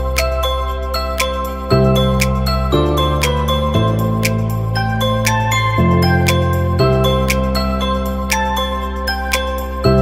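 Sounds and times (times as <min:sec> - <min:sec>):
held bass notes and chords: 0:00.0 - 0:10.0.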